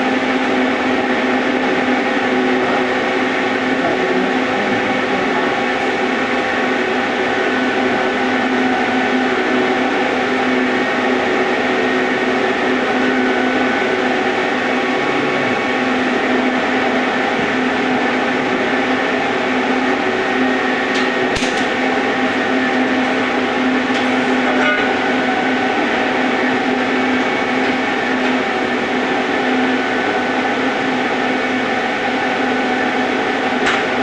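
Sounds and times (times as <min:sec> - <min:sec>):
machine humming with hiss: 0:00.0 - 0:34.0.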